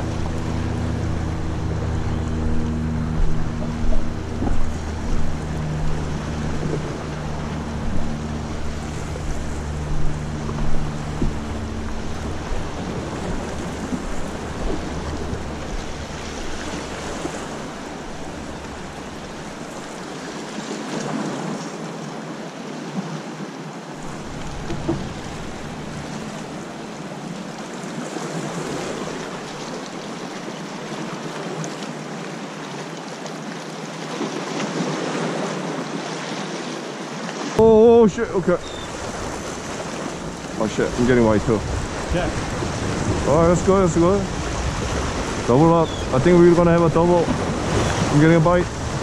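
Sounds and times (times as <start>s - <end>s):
wind rumbling on microphone: 0.0s - 21.4s, 24.0s - 30.4s, 37.6s - 49.0s
waves lapping against rocks: 0.0s - 49.0s.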